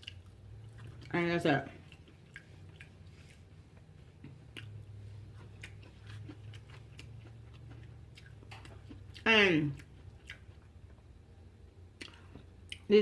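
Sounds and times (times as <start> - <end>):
person chewing food: 0.0 - 11.2, 11.9 - 12.9
steady low hum: 0.0 - 13.0.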